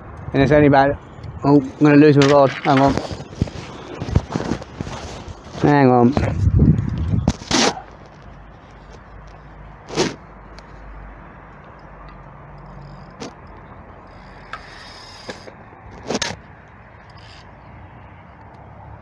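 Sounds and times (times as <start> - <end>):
car moving slowly: 0.0 - 19.0
traffic: 0.0 - 19.0.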